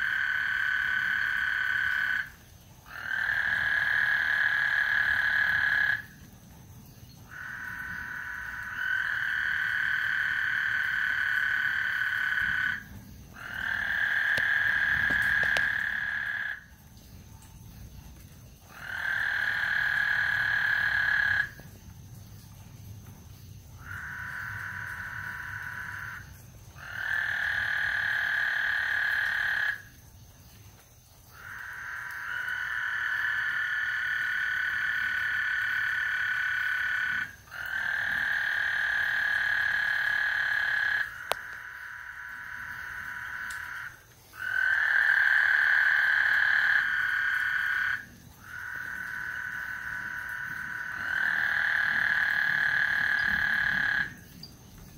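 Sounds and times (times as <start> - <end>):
frogs calling: 0.0 - 54.9.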